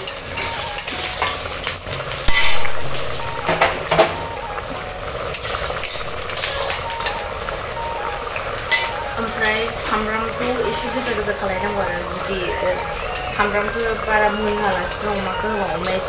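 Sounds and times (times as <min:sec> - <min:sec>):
pork sizzling in a wok: 0:00.0 - 0:16.0.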